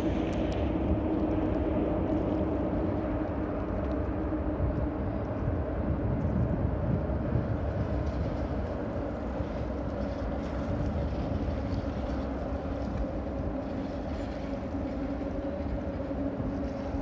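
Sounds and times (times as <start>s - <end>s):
constant droning tone: 0.0s - 17.0s.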